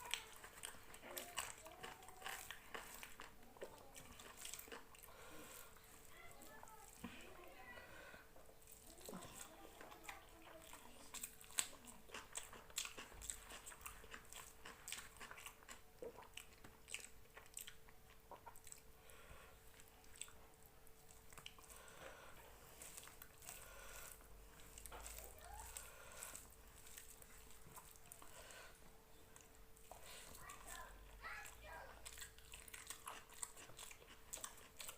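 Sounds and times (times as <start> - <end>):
faint steady hum: 0.0 - 34.9
person chewing food: 0.0 - 34.9.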